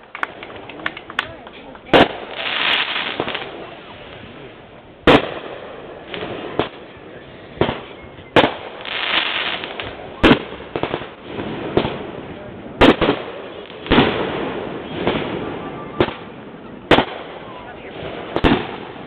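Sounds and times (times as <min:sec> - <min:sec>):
firework pops and crackling hiss: 0:00.0 - 0:07.0, 0:07.6 - 0:19.0
fireworks bangs: 0:00.0 - 0:19.0.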